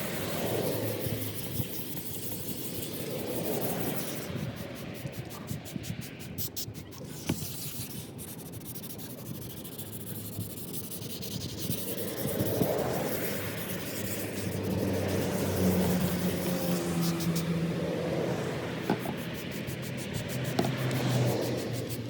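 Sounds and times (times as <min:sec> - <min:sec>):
sandpaper rubbing on plastic: 0:00.0 - 0:17.6, 0:18.3 - 0:22.0.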